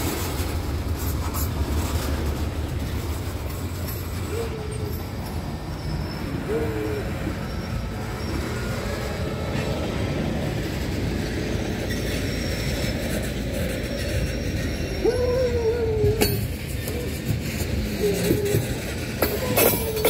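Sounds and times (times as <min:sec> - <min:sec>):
freight train rumbling: 0:00.0 - 0:20.0
train wheel squeal: 0:00.0 - 0:20.0.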